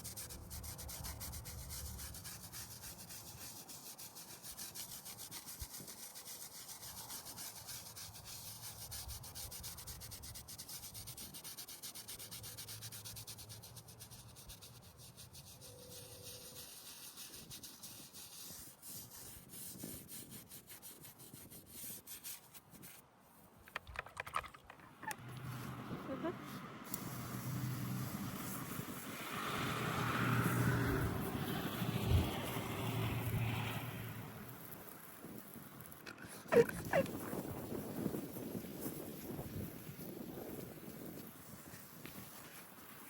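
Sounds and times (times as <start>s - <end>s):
brush scrubbing stone: 0.0s - 43.0s.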